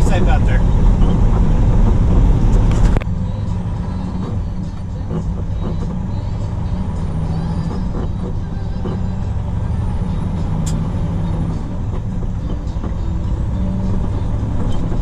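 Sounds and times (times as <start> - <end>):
road noise: 0.0 - 15.0
truck diesel engine drone: 0.0 - 15.0.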